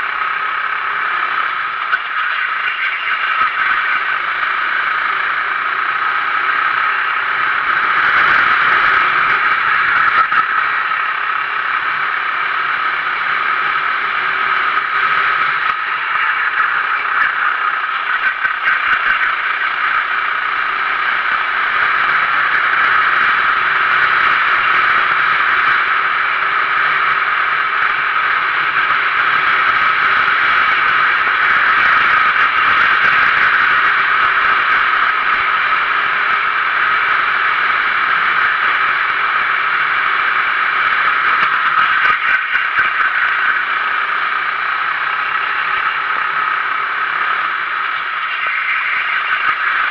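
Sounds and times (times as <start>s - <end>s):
kart engine drone: 0.0s - 49.9s
wind hiss and tyre noise: 0.0s - 49.9s.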